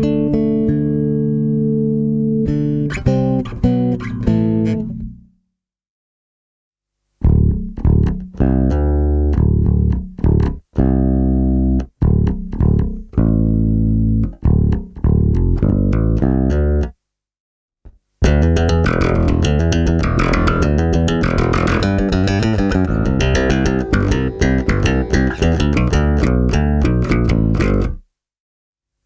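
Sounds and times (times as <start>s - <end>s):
electric bass notes: 0.0s - 5.2s, 7.2s - 16.9s, 18.2s - 28.0s.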